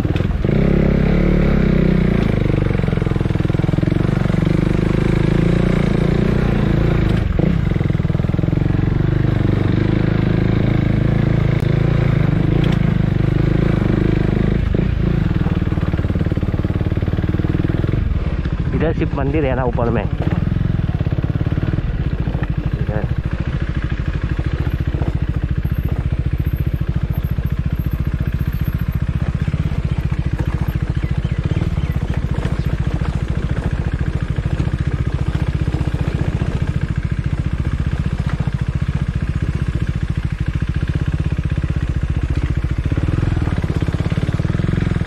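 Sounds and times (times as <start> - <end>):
motorcycle engine at low revs: 0.0 - 45.0.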